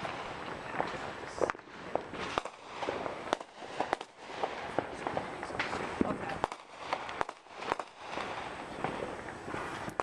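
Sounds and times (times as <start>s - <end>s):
continuous hiss: 0.0s - 10.0s
firecrackers popping and cracking: 0.0s - 10.0s.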